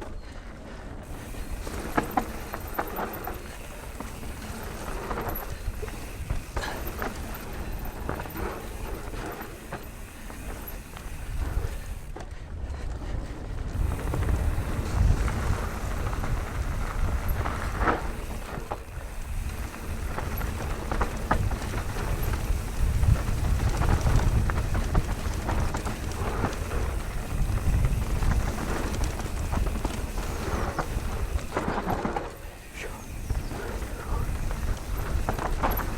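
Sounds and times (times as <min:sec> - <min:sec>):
bike knocking and rattling: 0:00.0 - 0:35.9
tyres on loose ground: 0:00.0 - 0:35.9
wind rumbling over microphone: 0:00.0 - 0:35.9.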